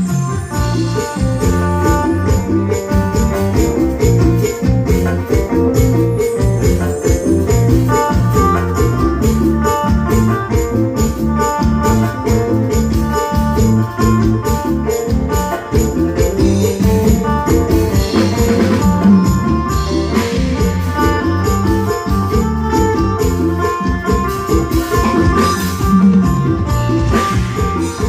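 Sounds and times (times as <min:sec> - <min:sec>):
jingling percussion: 0:00.0 - 0:28.0.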